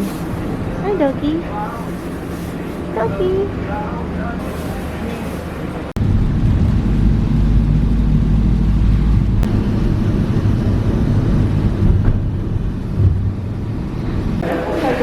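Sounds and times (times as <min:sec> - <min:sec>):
vehicle engine and road rumble: 0:00.0 - 0:14.5.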